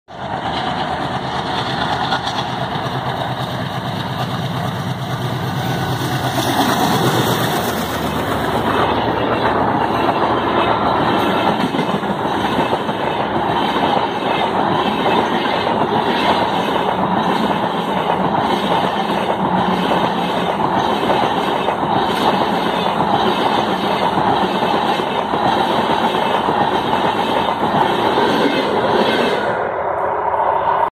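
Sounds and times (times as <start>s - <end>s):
rhythmic clickety-clack of wheels: 0.1s - 29.6s
locomotive engine running: 0.1s - 30.0s
train wheels rumbling on rails: 0.1s - 30.9s.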